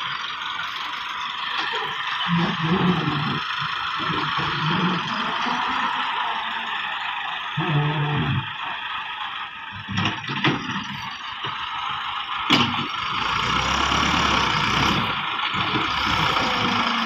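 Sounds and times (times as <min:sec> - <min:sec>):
deeper engine rumble: 0:00.0 - 0:17.0
tractor diesel engine running: 0:00.0 - 0:17.0.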